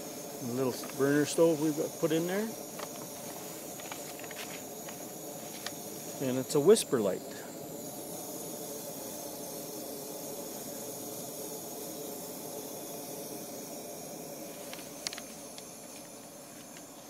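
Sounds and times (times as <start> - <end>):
camp stove hissing: 0.0 - 17.0.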